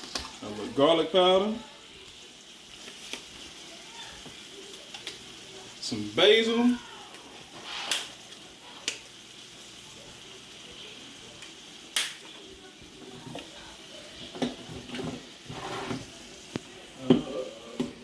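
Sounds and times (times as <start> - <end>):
chicken sizzling in a skillet: 0.0 - 18.0.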